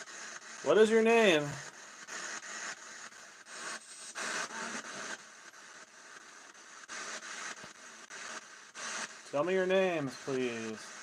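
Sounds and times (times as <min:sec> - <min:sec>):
choppy hissing static: 0:00.0 - 0:11.0.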